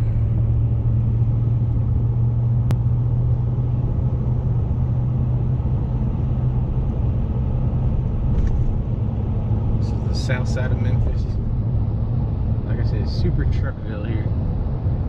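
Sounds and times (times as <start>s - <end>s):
car cabin road drone: 0.0s - 15.0s.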